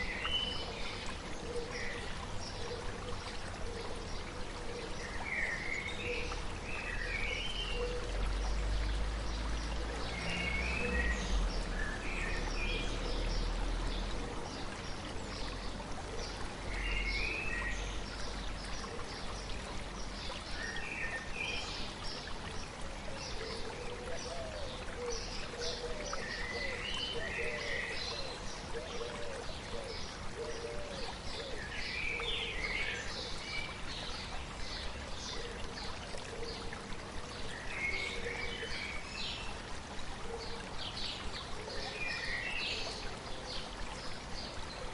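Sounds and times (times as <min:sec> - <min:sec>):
stream flowing: 0:00.0 - 0:44.9.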